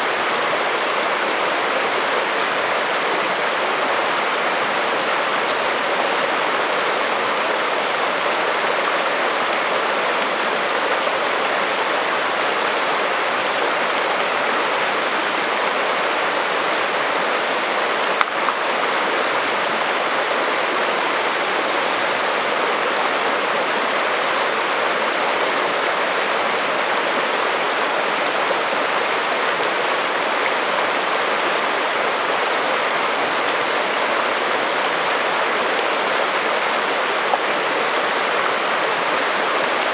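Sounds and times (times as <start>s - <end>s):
creek rushing over rocks: 0.0s - 39.9s.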